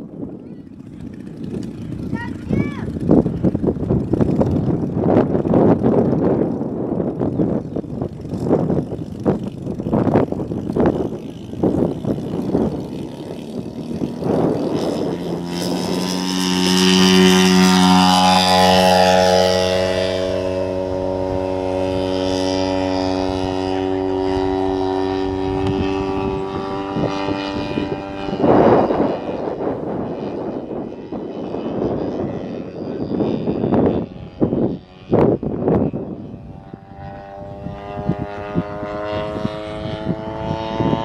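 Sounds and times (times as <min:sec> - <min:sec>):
low rumbles: 0:00.0 - 0:41.0
model airplane engine and propeller: 0:00.0 - 0:41.0.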